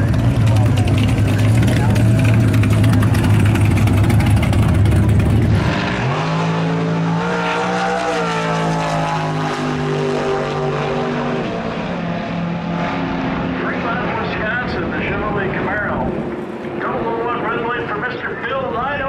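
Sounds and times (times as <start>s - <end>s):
car engine high drone: 0.0s - 19.0s
car engine rumbling low: 0.0s - 19.0s.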